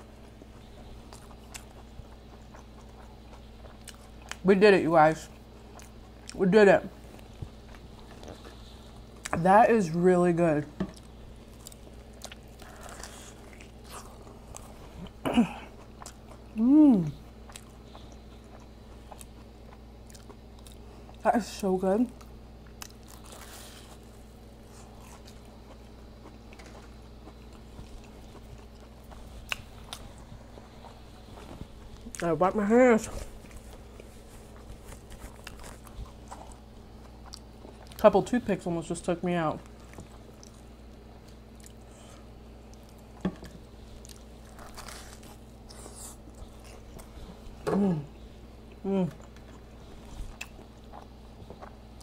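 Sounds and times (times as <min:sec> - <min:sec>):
person chewing crunchy food: 0:00.0 - 0:04.4, 0:05.3 - 0:06.4, 0:07.0 - 0:09.4, 0:10.9 - 0:21.2, 0:22.2 - 0:32.3, 0:33.1 - 0:38.0, 0:39.6 - 0:52.0.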